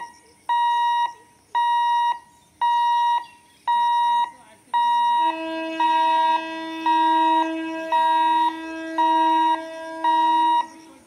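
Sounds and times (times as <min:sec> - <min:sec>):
level crossing alarm beeping: 0:00.0 - 0:11.0
low steady tone: 0:00.0 - 0:11.0.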